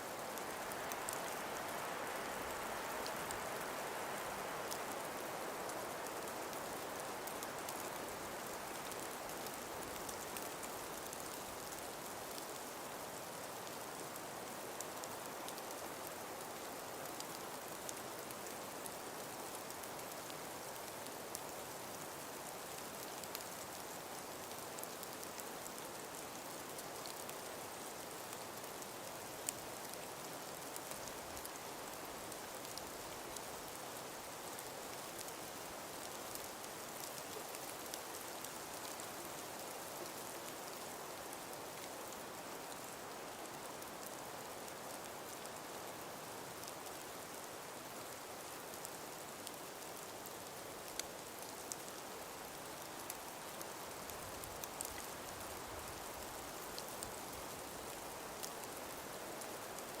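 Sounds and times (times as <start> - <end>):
breeze through trees: 0.0 - 60.0
faint scattered ticks: 0.0 - 60.0.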